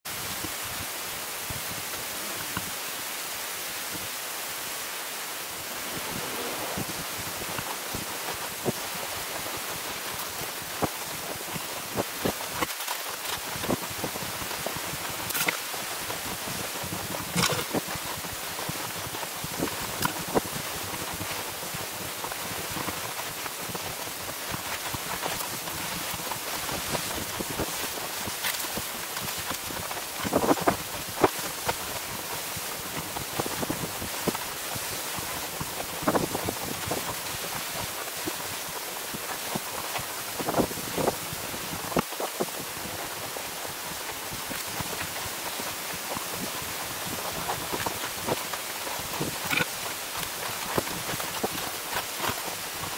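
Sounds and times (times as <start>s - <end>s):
skis hissing through snow: 0.1s - 52.9s.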